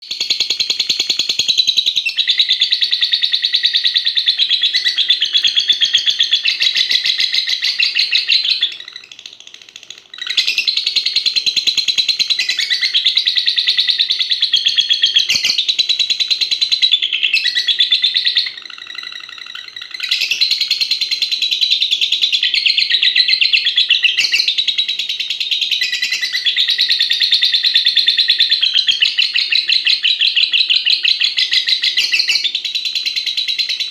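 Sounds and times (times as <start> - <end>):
bird chattering trills: 1.9 - 33.9.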